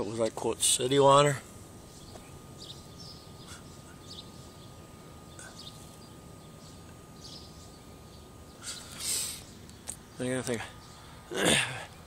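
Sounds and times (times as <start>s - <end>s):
faint birds chirping: 0.0s - 12.0s
steady low background noise: 0.0s - 12.0s.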